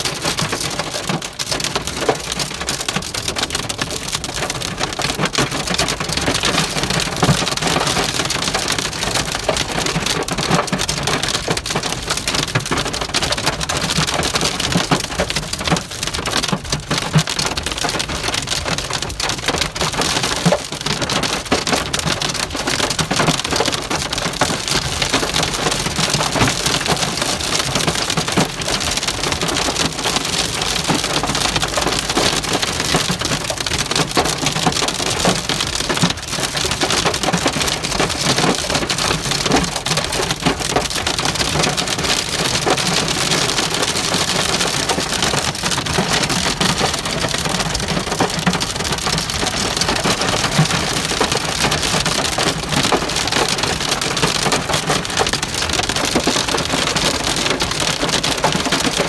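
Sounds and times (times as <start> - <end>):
hail and rain drumming on car roof: 0.0 - 59.0.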